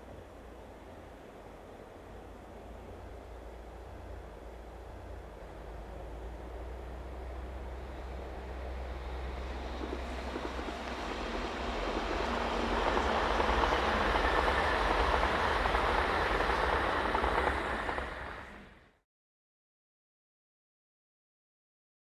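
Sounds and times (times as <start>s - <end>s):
train running past: 0.0s - 19.0s.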